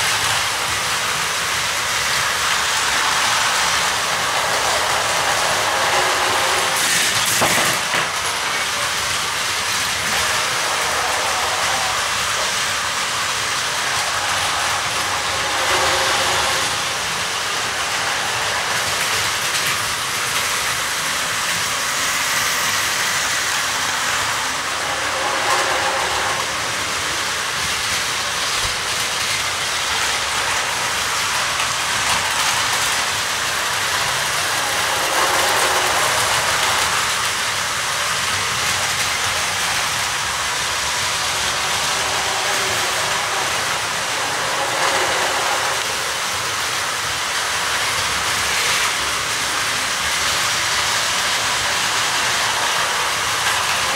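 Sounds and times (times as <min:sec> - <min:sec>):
toy trains whirring and rattling: 0:00.0 - 0:53.9.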